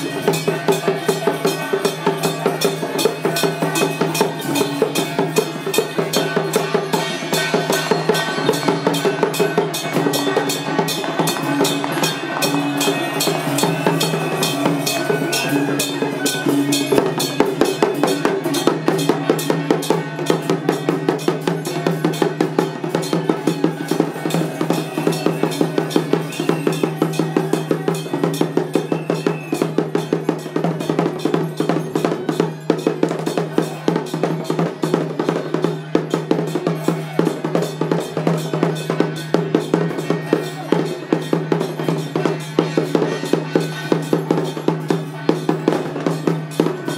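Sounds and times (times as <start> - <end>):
drums and cymbals beating: 0.0 - 46.9.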